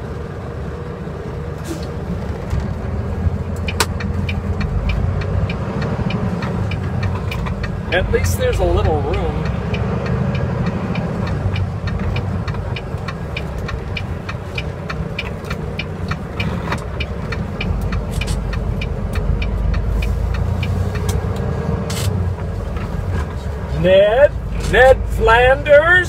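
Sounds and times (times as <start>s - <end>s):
diesel engine running: 0.0s - 26.0s
turn signal ticking: 2.0s - 26.0s.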